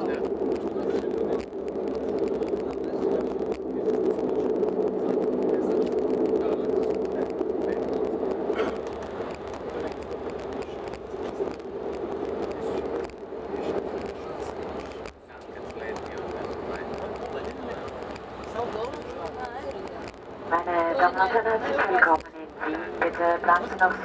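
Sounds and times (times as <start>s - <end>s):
turboprop engine drone: 0.0s - 24.0s.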